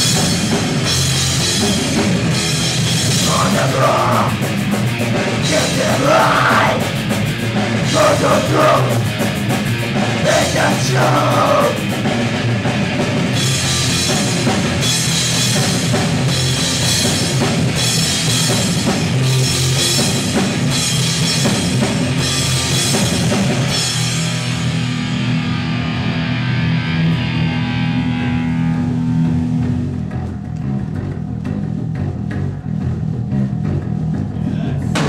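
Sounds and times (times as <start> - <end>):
bass guitar: 0.0 - 35.0
distorted electric guitar: 0.0 - 35.0
drum kit: 0.0 - 35.0.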